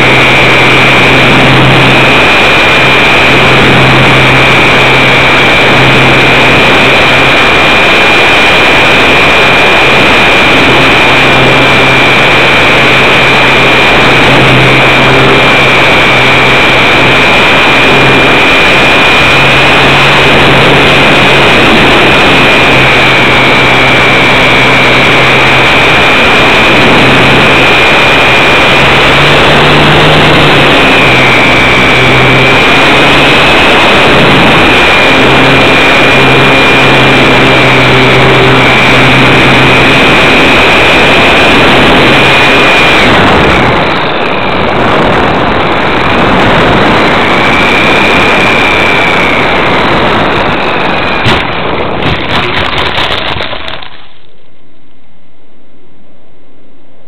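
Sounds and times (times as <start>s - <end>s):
heavy wind rush: 0.0s - 55.3s
electric motor and propeller whining: 0.0s - 57.0s.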